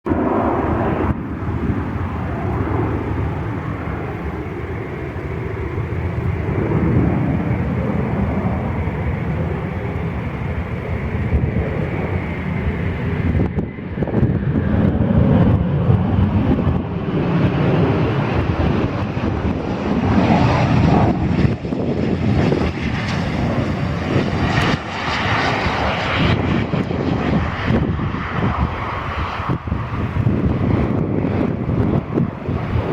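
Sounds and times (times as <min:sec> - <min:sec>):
jet engine rumble: 0:00.0 - 0:32.9.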